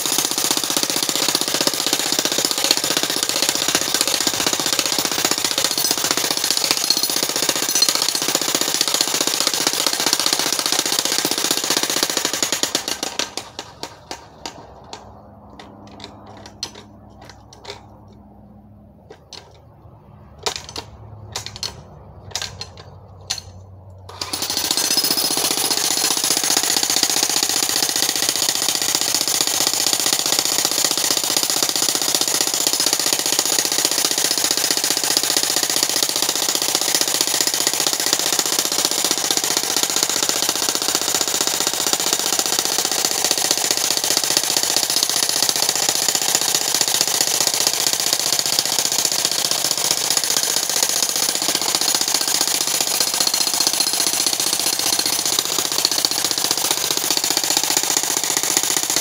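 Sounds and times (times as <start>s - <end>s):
jackhammer pounding rock: 0.0s - 17.9s, 20.4s - 59.0s.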